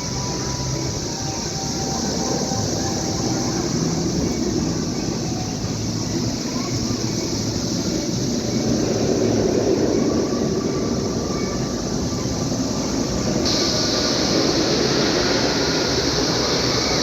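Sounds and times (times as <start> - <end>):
cicadas chorus: 0.0 - 17.0.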